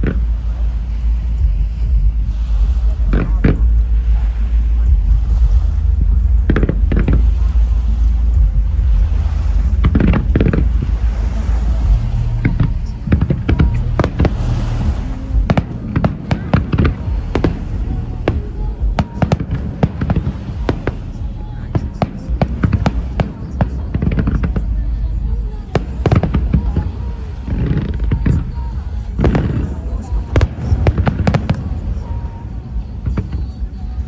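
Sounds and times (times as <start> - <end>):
fireworks bangs and crackles: 0.0 - 34.0
fireworks booms: 0.0 - 34.0
steady low rumble: 0.0 - 34.0.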